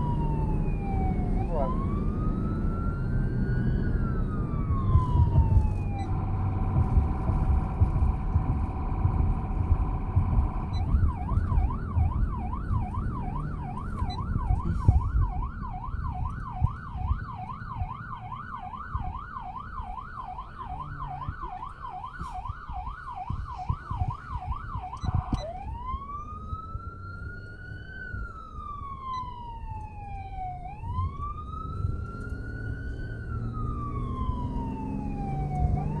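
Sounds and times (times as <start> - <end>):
ambulance siren: 0.0 - 36.0
engine and road rumble: 0.0 - 36.0.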